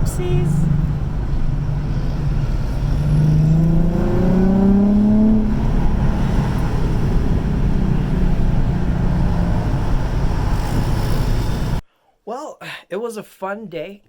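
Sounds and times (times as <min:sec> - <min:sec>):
car engine revving: 0:00.0 - 0:11.8
low road rumble: 0:00.0 - 0:11.8.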